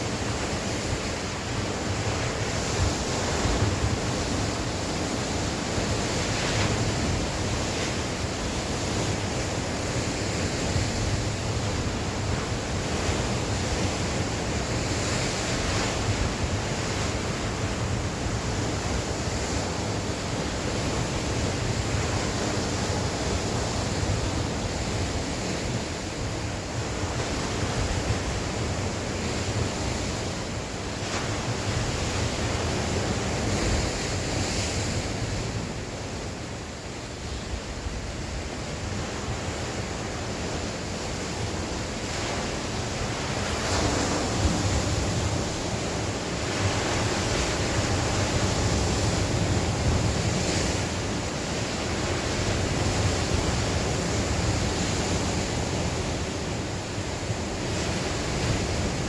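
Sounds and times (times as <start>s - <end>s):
sea waves washing on shore: 0.0s - 59.0s.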